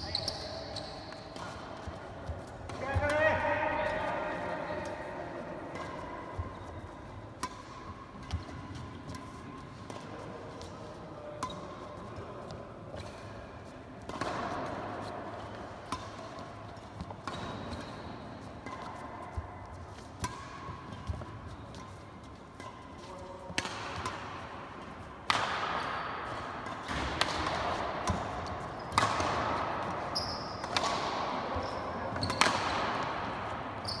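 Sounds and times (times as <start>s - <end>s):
racket hitting shuttlecock: 0.3s - 13.4s, 14.0s - 33.9s.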